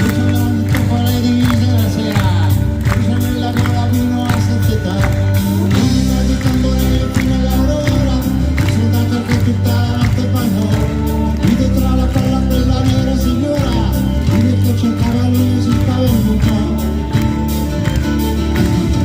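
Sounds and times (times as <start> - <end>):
live band playing instrumental: 0.0 - 19.0
steady drum beat: 0.0 - 19.0.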